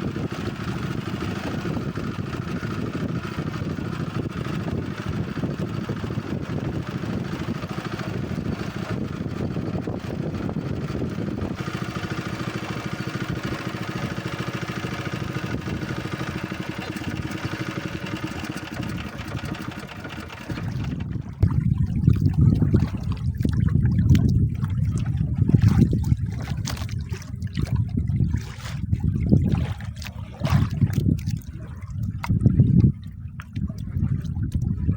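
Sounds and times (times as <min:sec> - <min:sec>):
small boat motor running: 0:00.0 - 0:34.9.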